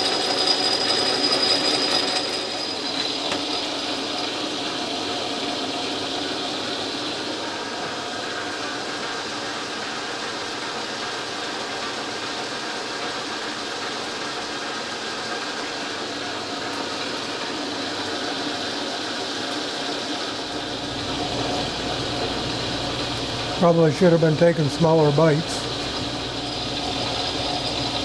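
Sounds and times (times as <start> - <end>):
lathe running and cutting: 0.0 - 28.0.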